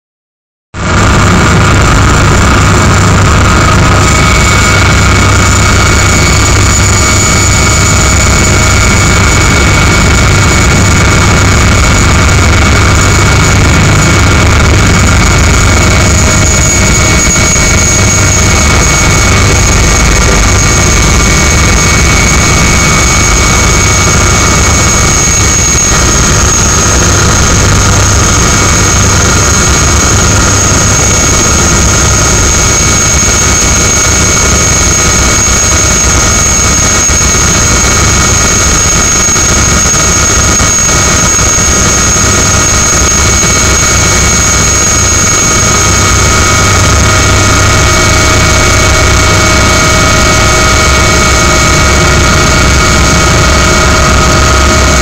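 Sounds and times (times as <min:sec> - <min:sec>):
helicopter turbine whine: 0:00.8 - 0:55.0.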